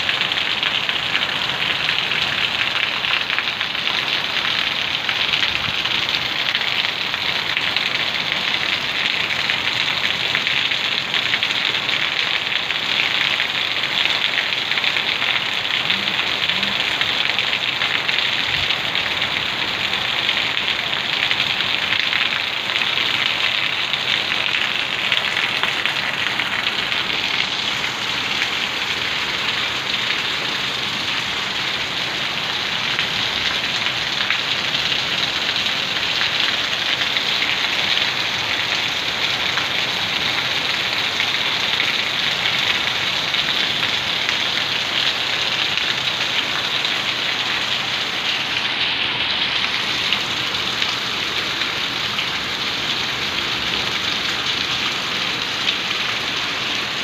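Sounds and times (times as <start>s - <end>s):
heavy rain falling: 0.0s - 57.0s
water pouring off a roof: 0.0s - 57.0s.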